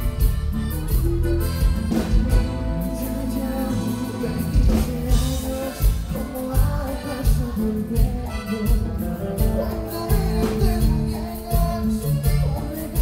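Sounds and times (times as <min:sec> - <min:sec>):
live latin band playing: 0:00.0 - 0:13.0
man singing: 0:01.6 - 0:13.0.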